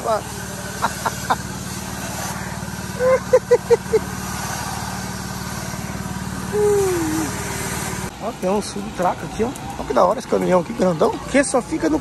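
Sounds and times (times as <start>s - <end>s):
ride machinery drone: 0.0s - 12.0s.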